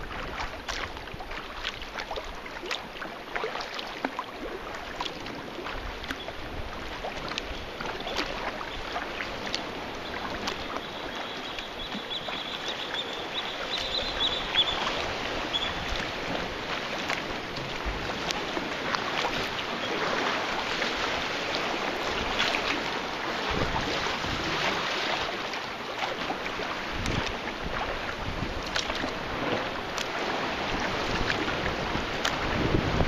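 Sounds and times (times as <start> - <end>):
wind on microphone: 0.0 - 1.6, 4.8 - 25.3, 26.4 - 33.0
water lapping against a hull: 0.0 - 33.0.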